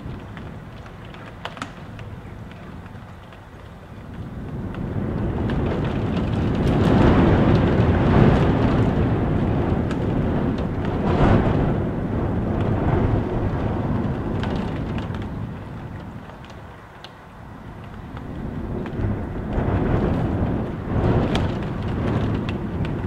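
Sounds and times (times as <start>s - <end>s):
rain ticking on window: 0.0s - 23.0s
wind buffeting a house: 0.0s - 23.0s.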